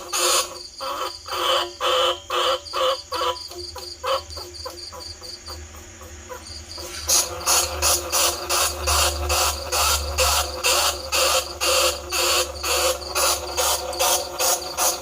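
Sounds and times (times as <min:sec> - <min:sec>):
rat squeaking: 0:00.0 - 0:15.0
steady low hum: 0:00.0 - 0:15.0.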